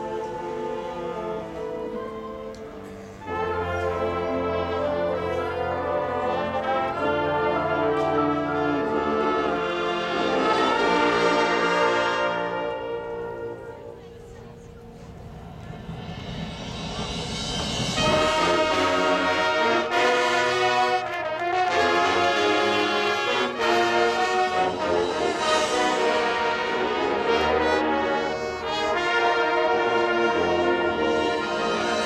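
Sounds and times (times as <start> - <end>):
brass section playing chords: 0.0 - 14.2, 16.6 - 32.0.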